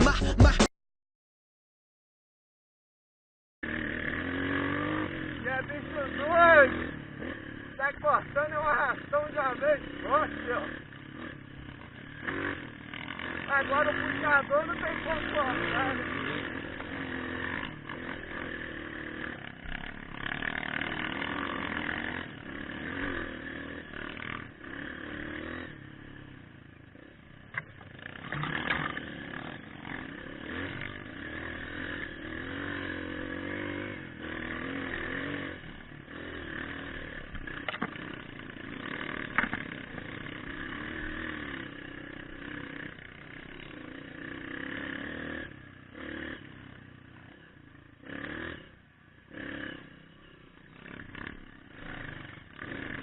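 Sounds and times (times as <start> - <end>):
motorcycle engine revving: 3.6 - 53.0.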